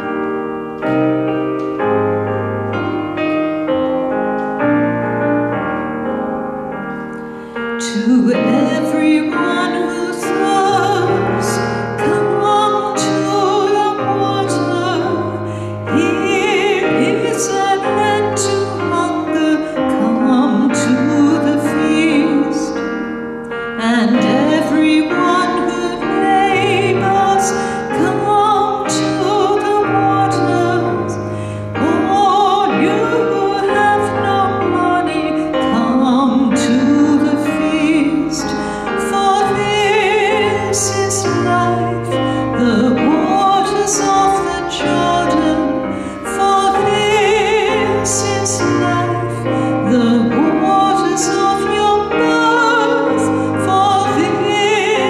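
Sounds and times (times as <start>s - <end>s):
keyboard playing chords: 0.0s - 55.0s
woman singing a hymn: 7.8s - 55.0s.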